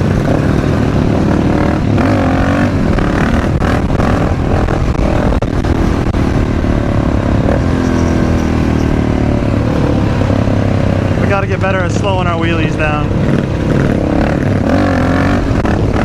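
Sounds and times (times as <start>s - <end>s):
motorcycle engine revving: 0.0s - 16.0s
wind rushing over microphone: 0.0s - 16.0s.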